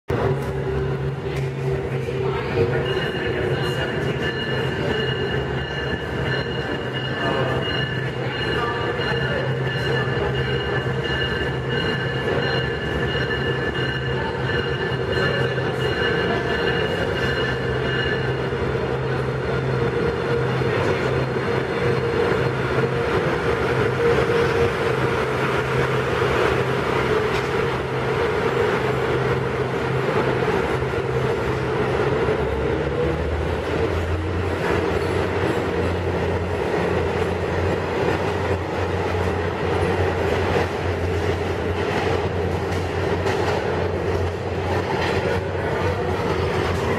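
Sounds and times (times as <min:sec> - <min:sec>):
diesel locomotive engine drone: 0:00.1 - 0:46.9
train wheels on rails: 0:00.1 - 0:46.9.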